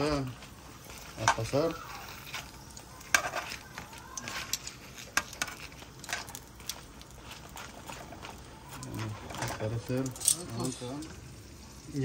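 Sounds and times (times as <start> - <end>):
metal tongs scraping a frying pan: 0.7 - 11.2.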